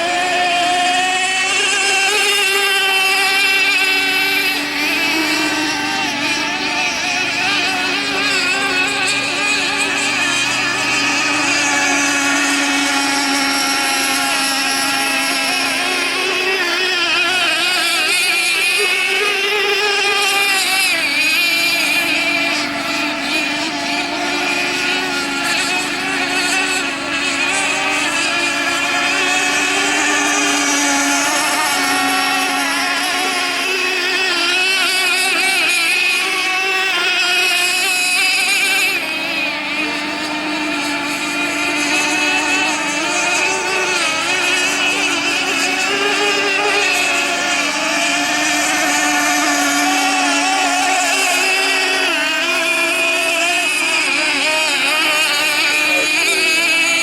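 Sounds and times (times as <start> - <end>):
model boat motors whining: 0.0 - 57.0.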